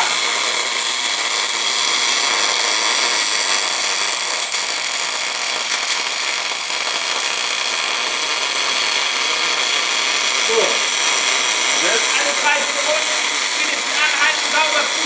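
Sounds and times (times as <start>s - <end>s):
welding arc hissing: 0.0s - 15.0s.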